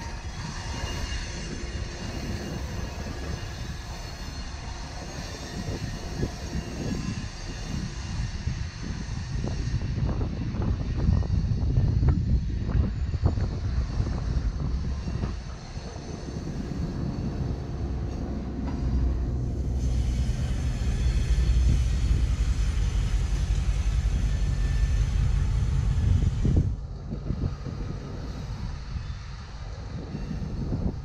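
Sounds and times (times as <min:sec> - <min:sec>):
distant freight train rumble: 0:00.0 - 0:31.0.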